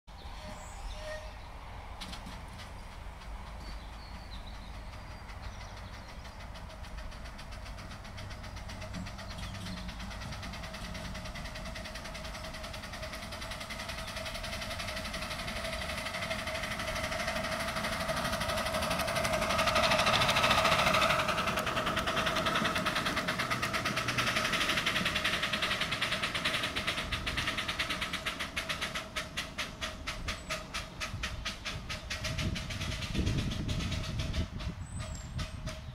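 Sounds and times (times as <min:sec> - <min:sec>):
steam locomotive chuffing: 0:00.2 - 0:35.9.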